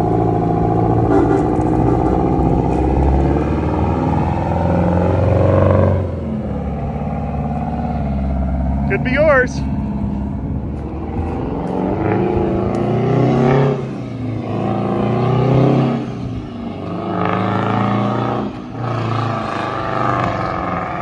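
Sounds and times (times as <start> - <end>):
diesel truck pulling away: 0.0 - 21.0.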